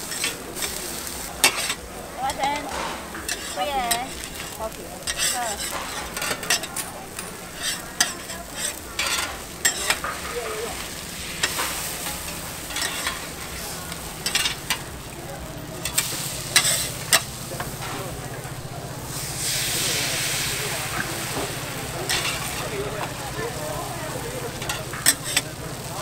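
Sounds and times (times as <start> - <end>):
metal spatulas scraping griddle: 0.0 - 15.2, 15.8 - 26.0
egg sizzling on griddle: 0.0 - 26.0.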